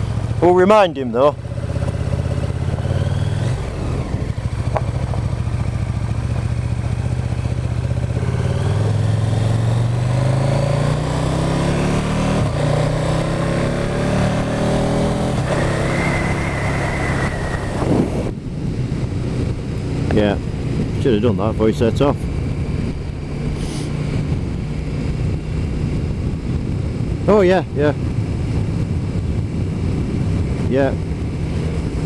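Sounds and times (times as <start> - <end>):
motorcycle engine accelerating: 0.0 - 32.0
wind and road rush: 0.0 - 32.0.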